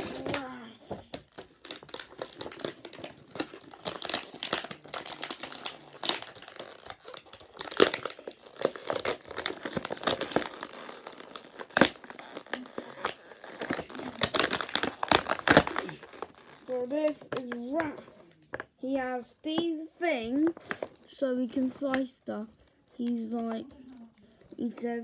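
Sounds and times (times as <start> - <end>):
plastic packaging crinkling: 0.0 - 18.7, 20.4 - 25.0.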